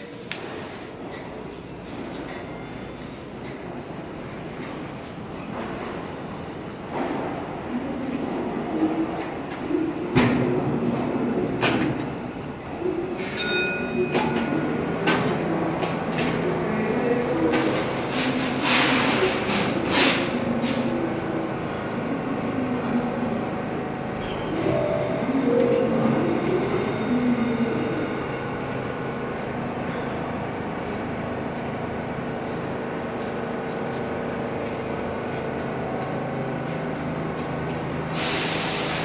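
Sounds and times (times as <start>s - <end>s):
subway car rumble: 0.0s - 39.0s.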